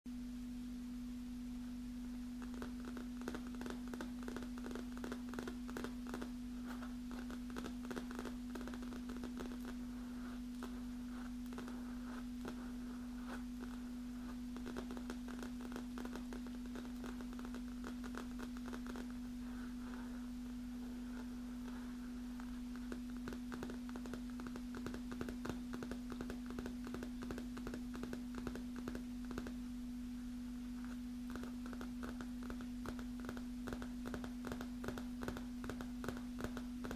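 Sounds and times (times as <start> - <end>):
steady low hum: 0.1 - 36.9
fingernails tapping on leather: 2.4 - 19.1, 22.4 - 29.6, 30.8 - 36.9.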